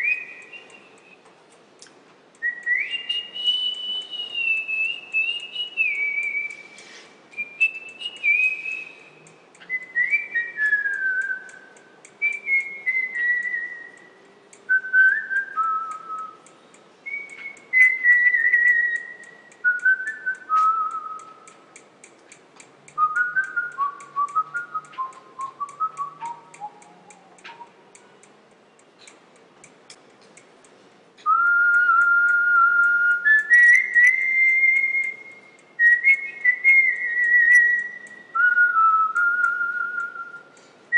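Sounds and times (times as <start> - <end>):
person whistling a slow tune: 0.0 - 1.3, 2.4 - 16.4, 17.0 - 21.5, 23.0 - 27.8, 31.2 - 40.9
faint regular ticking: 0.0 - 40.9.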